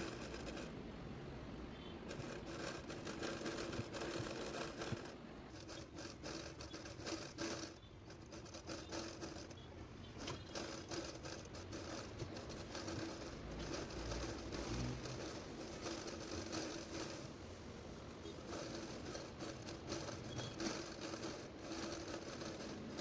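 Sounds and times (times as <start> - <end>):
needle and thread through fabric: 0.0 - 0.8, 1.8 - 23.0
faint steady hum: 0.0 - 23.0.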